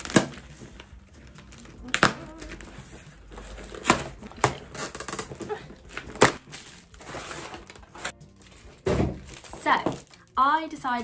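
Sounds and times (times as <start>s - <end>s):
cardboard ripping: 0.0s - 10.2s
packaging rustling: 0.0s - 10.4s.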